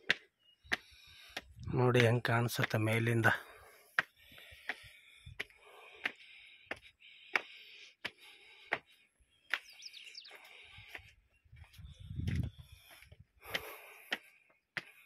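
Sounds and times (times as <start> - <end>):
footsteps on concrete steps: 0.0 - 15.0.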